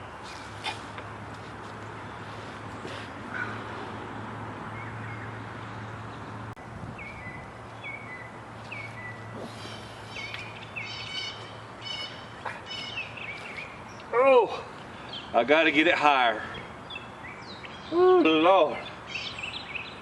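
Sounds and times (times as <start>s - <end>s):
birds chirping: 1.7s - 20.0s.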